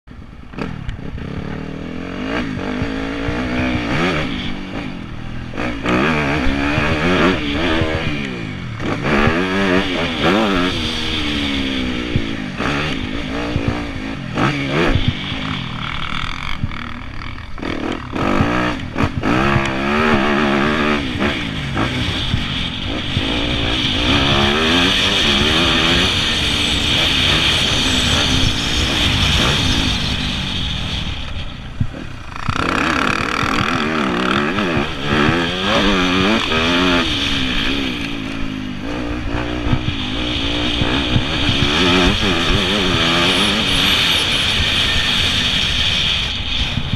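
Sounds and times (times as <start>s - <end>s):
motocross engine revving: 0.4s - 46.9s.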